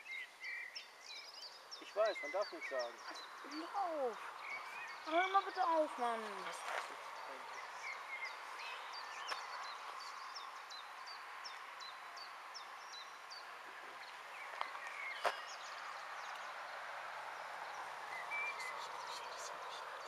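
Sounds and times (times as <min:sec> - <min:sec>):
small bird chirping: 0:00.0 - 0:20.0
steady outdoor hiss: 0:00.0 - 0:20.0.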